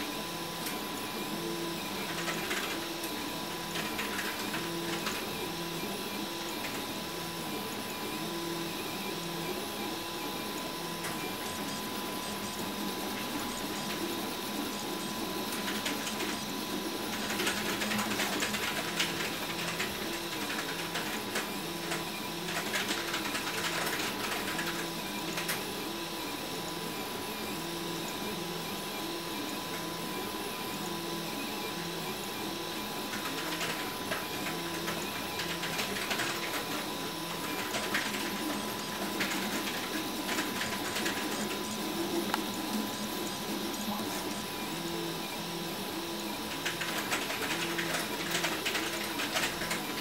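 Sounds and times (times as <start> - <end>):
thin steady whine: 0.0 - 50.0.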